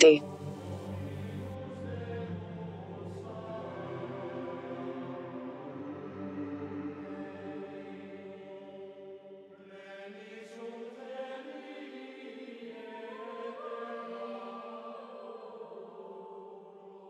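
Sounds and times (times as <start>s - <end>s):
slow chanting voices: 0.0s - 17.0s.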